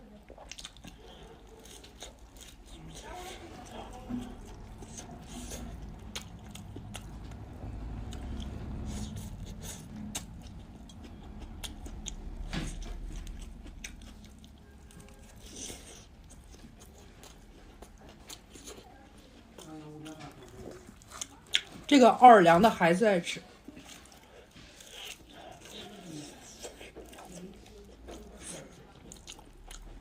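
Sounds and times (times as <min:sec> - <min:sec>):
person chewing food: 0:00.0 - 0:21.9, 0:23.4 - 0:30.0.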